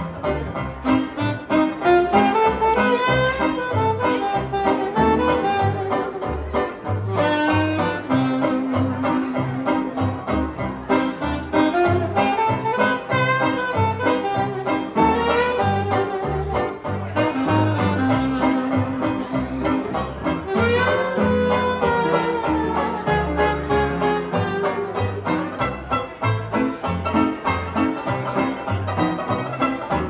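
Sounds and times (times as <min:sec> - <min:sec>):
bass notes: 0:00.0 - 0:30.0
strummed banjo: 0:00.0 - 0:30.0
wind instrument with vibrato: 0:00.0 - 0:30.0.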